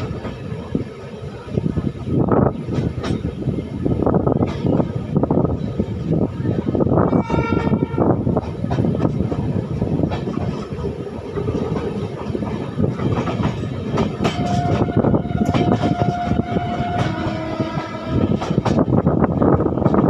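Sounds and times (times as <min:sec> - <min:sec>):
train wheels clattering on rails: 0:00.0 - 0:20.0.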